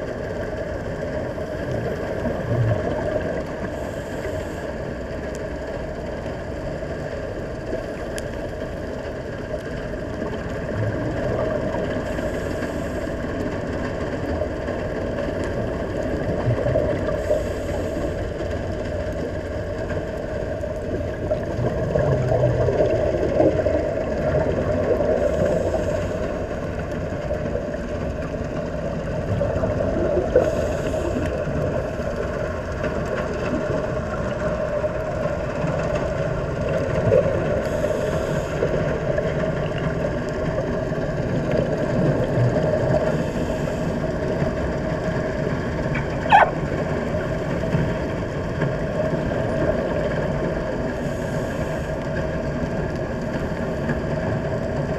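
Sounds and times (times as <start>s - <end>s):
muffled underwater rumble and hiss: 0.0s - 54.9s
regulator exhale bubbles: 1.2s - 5.5s, 9.9s - 54.9s.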